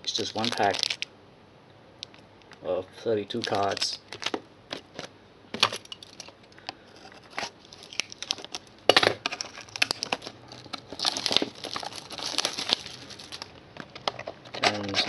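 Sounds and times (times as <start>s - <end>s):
wrapper crinkling and tearing: 0.1s - 1.1s, 3.3s - 15.0s.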